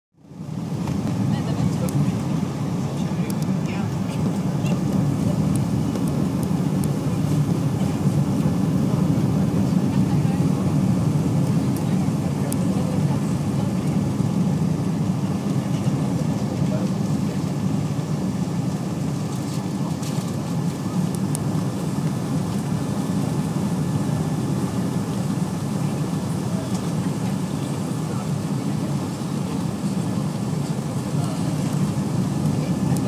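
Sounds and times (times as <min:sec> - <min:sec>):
jet engines roaring: 0:00.2 - 0:33.0.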